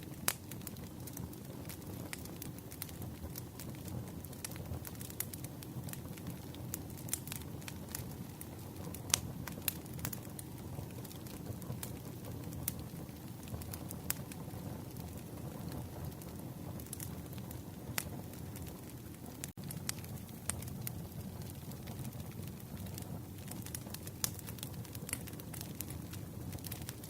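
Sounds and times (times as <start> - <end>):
logs crackling and popping: 0.0 - 27.0
low rumble of flames: 0.0 - 27.0.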